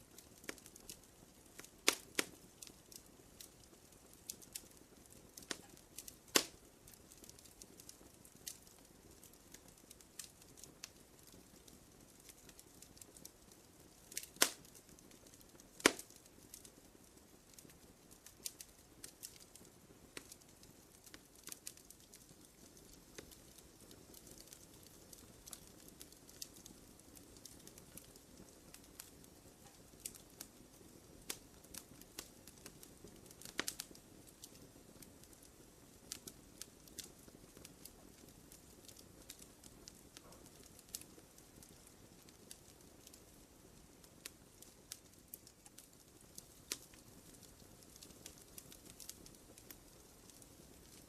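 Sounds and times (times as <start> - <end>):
campfire crackling and popping: 0.0 - 51.0.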